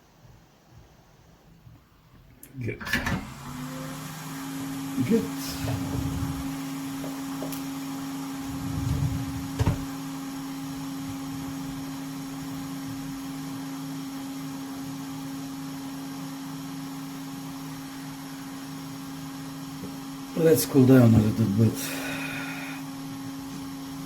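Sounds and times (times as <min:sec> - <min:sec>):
electric fan hum: 0:00.0 - 0:24.0.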